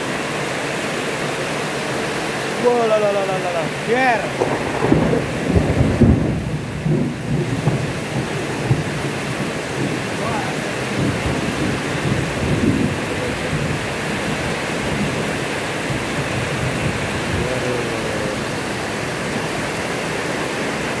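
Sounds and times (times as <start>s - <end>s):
heavy rain pouring: 0.0s - 21.0s
runoff streaming off roof: 0.0s - 21.0s.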